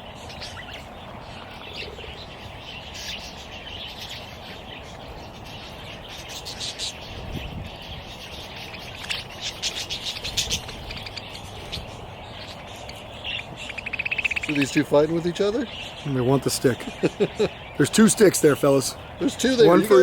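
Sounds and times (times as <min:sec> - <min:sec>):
budgies chattering and chirping: 0:00.0 - 0:20.0.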